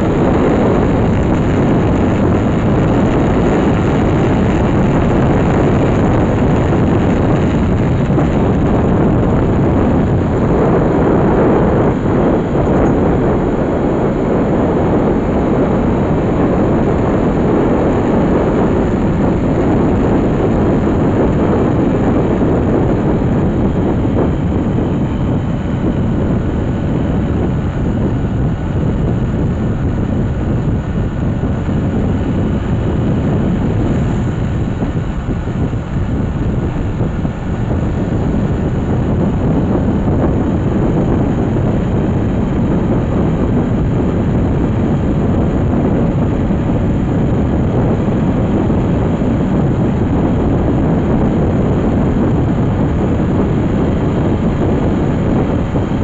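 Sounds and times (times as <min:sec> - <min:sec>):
vehicle rumble from inside: 0:00.0 - 0:56.0.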